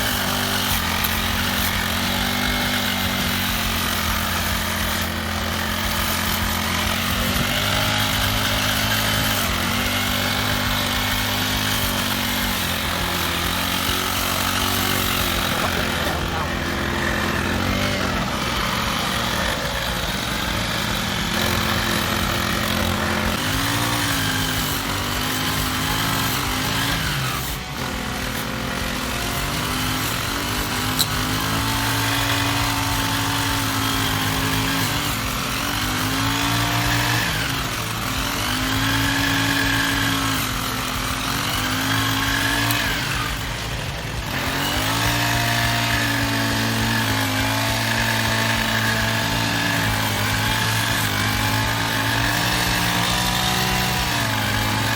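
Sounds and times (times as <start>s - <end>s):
grass cutter engine running: 0.0s - 54.9s.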